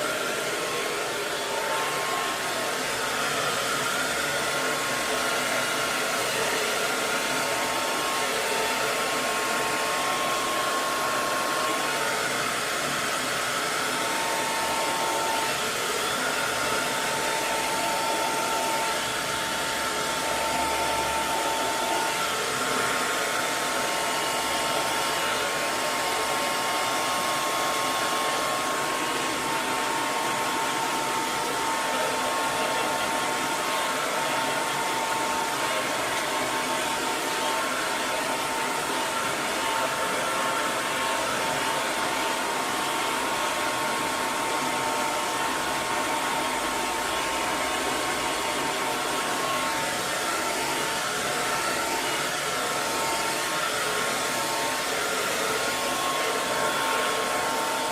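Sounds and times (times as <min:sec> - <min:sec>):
hair dryer blowing air: 0:00.0 - 0:57.9.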